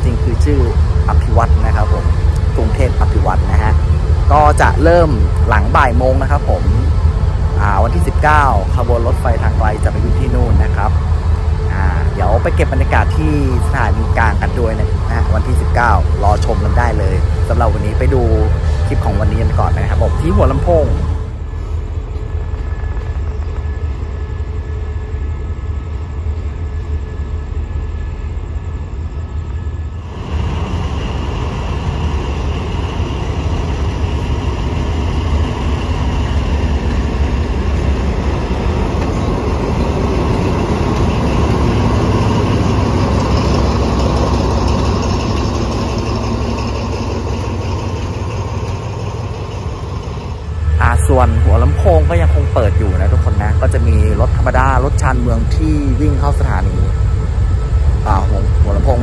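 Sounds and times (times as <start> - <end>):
engine whine: 0.0 - 59.0
locomotive engine rumble: 0.0 - 59.0.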